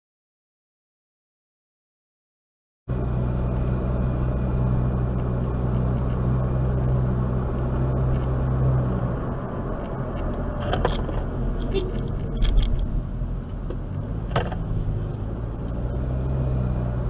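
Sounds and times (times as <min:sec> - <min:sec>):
car engine and road drone: 0:02.9 - 0:17.0.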